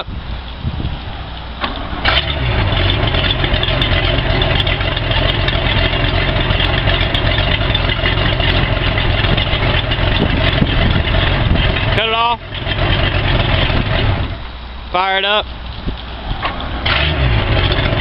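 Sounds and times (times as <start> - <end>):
boat engine cranking and idling: 0.0 - 18.0.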